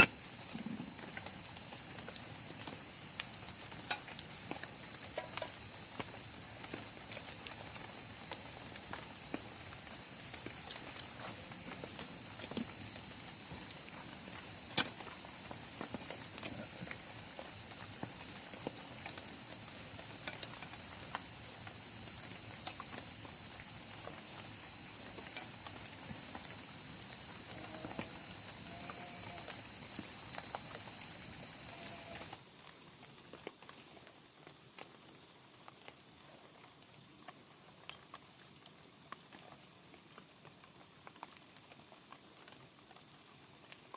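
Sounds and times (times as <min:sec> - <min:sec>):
insects chirping: 0:00.0 - 0:35.6.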